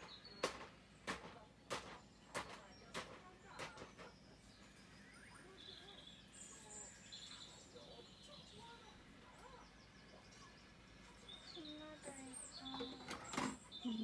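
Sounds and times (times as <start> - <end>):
faint birdsong trills: 0.0 - 1.1, 2.0 - 14.0.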